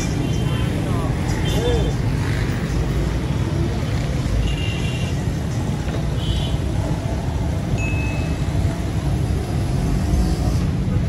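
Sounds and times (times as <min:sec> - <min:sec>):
dense traffic rumble: 0:00.0 - 0:11.0.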